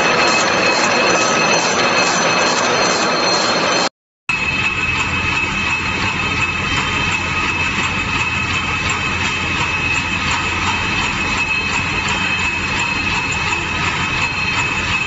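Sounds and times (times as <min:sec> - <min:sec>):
machine running with high whine: 0:00.0 - 0:15.0.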